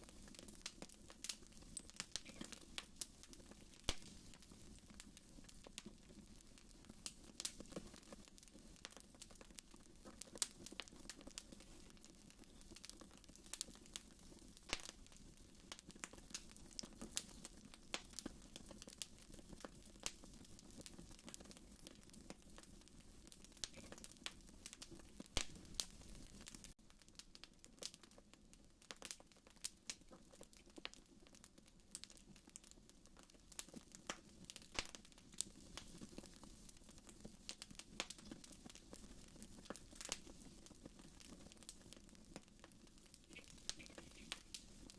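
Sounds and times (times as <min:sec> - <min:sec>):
fire pops and snaps: 0:00.0 - 0:44.9
wood fire crackling: 0:00.0 - 0:44.9.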